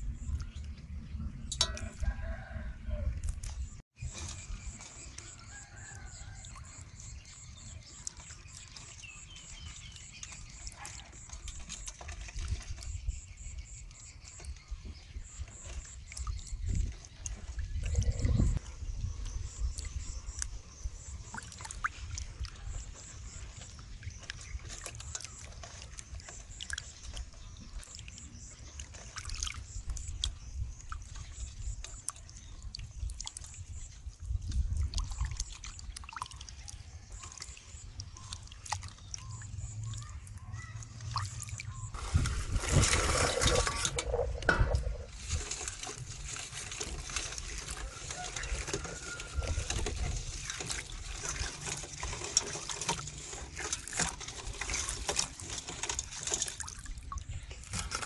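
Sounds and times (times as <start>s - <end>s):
water splashing in a steel bowl: 1.4s - 3.7s, 4.3s - 18.7s, 19.4s - 58.0s
hands scrubbing crabs: 1.6s - 58.0s.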